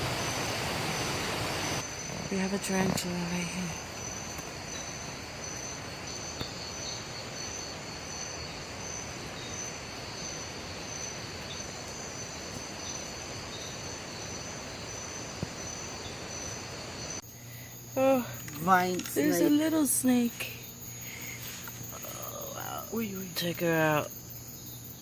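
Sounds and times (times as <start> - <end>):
constant hiss: 0.0 - 25.0
insects calling steadily: 0.0 - 25.0.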